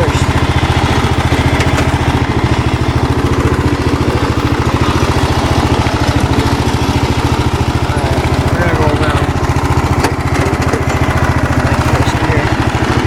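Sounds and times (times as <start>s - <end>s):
small engine putter: 0.0s - 13.0s.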